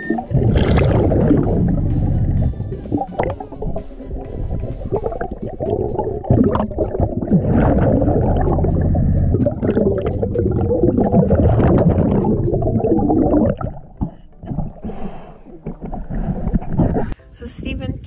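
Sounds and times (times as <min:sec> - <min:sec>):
underwater bubbles gurgling: 0:00.0 - 0:17.2.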